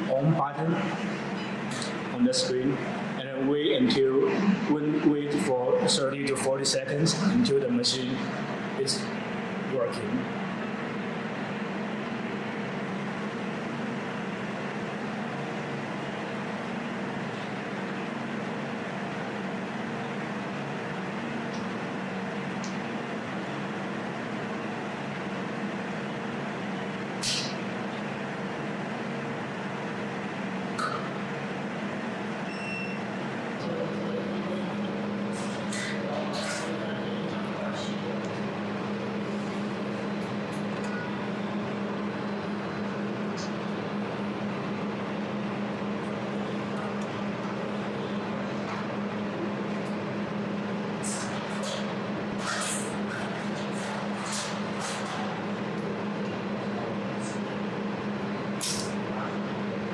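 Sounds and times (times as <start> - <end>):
welding machine cooling fans humming: 0.0 - 59.9.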